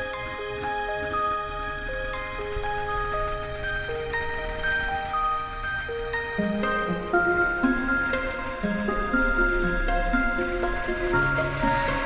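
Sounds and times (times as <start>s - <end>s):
chime-like instrumental melody: 0.0s - 12.0s.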